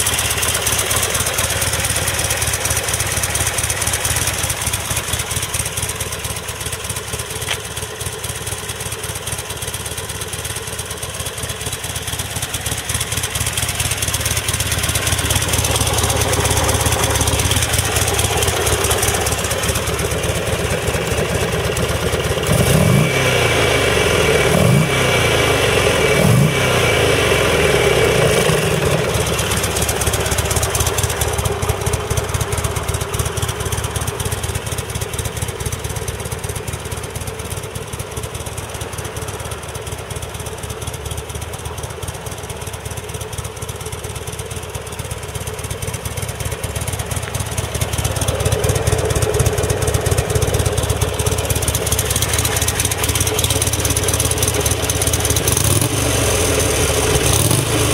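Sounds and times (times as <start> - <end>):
motorcycle engine idling: 0.0 - 57.9.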